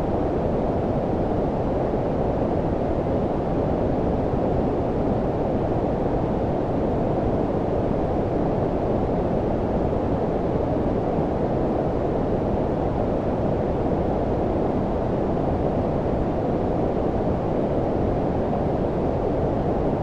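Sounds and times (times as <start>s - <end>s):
low-pitched brown noise: 0.0s - 20.0s.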